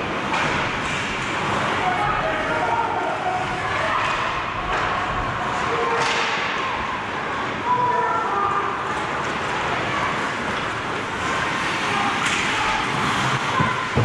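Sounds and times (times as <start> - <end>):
ice rink ambience: 0.0 - 14.0.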